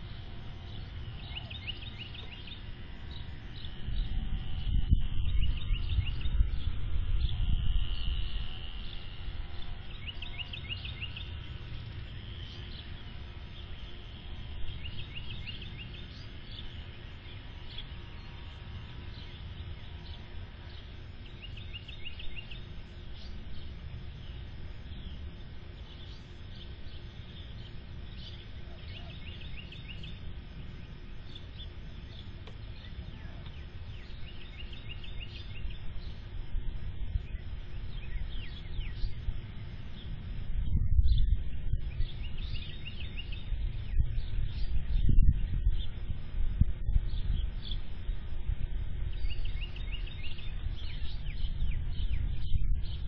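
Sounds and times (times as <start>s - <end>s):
bird chirping: 0.0s - 48.0s, 49.0s - 53.0s.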